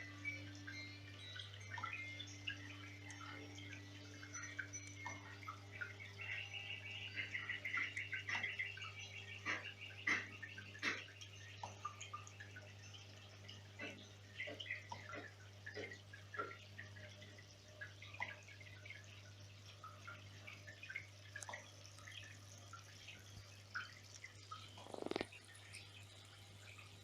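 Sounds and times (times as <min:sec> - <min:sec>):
water dripping and trickling: 0:00.0 - 0:27.0.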